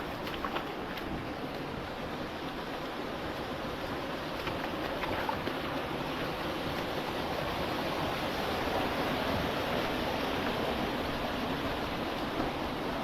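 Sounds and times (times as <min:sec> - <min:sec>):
creek water flowing over rock: 0:00.0 - 0:13.0.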